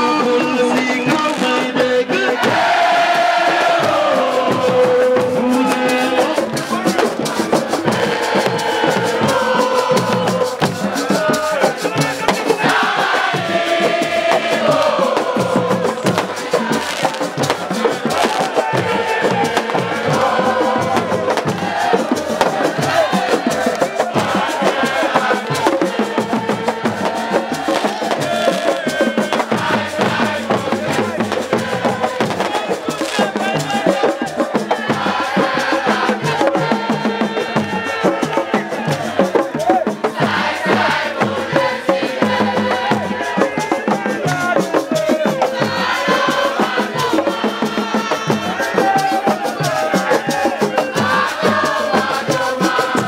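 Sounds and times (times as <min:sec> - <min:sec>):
fast drumming: 0:00.0 - 0:53.0
voices chanting in unison: 0:00.0 - 0:53.0.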